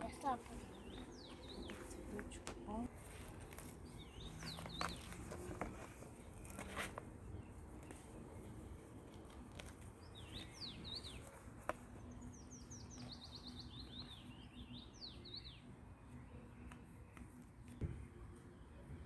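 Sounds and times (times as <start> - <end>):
songbird twittering and trilling: 0.0 - 8.6, 9.8 - 17.8
faint background noise: 0.0 - 19.0.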